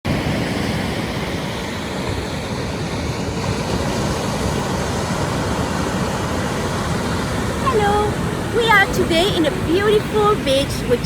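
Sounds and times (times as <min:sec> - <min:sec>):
surf rushing: 0:00.1 - 0:11.0
wind buffeting microphone: 0:00.1 - 0:11.0.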